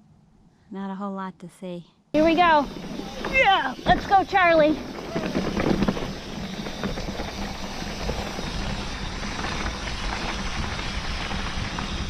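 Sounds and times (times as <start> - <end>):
mountain bike rolling on dirt: 2.2 - 12.0
wind rumble on microphone: 2.2 - 12.0.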